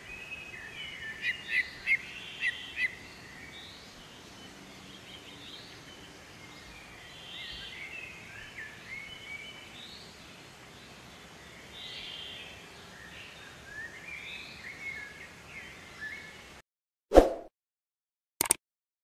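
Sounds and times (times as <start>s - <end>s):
small birds chirping and singing: 0.0s - 16.6s
steady background hiss: 0.0s - 16.6s.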